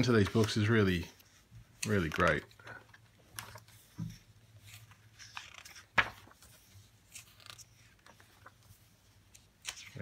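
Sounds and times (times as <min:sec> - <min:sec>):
book pages turning: 0:00.0 - 0:10.0.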